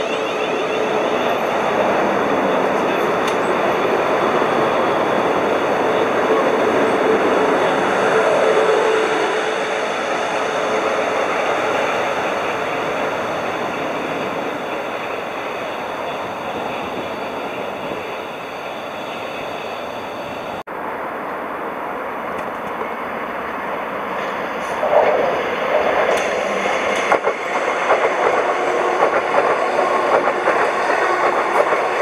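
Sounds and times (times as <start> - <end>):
train rushing by: 0.0 - 32.0.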